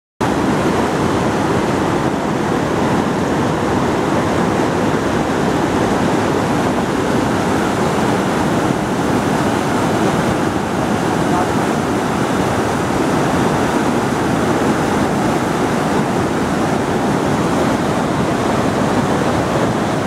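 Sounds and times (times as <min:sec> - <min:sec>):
river rushing over stones: 0:00.2 - 0:20.0.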